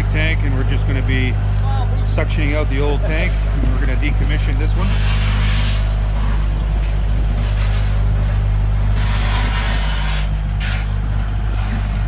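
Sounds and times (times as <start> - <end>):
truck engine and vacuum pump drone: 0.0 - 12.0.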